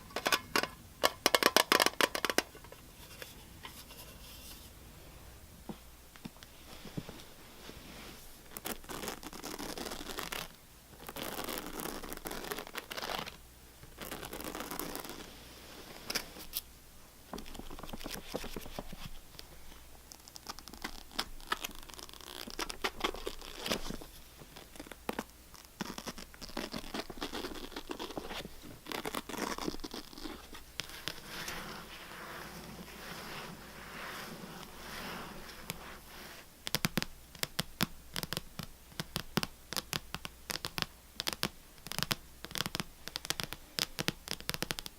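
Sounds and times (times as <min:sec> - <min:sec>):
scratching on a hard surface: 0:01.2 - 0:04.8, 0:06.6 - 0:16.6, 0:17.4 - 0:19.2, 0:20.2 - 0:44.9.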